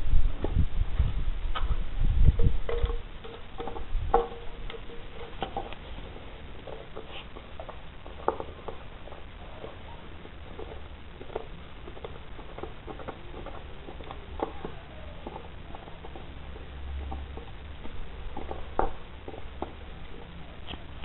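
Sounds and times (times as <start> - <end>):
low rumble: 0.0 - 21.0
plastic bottle crackling: 2.6 - 21.0.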